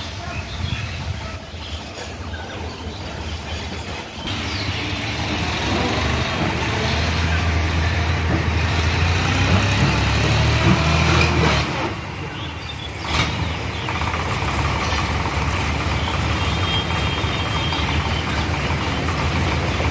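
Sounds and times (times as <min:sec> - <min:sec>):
heavy diesel engine under load: 0:00.0 - 0:19.9.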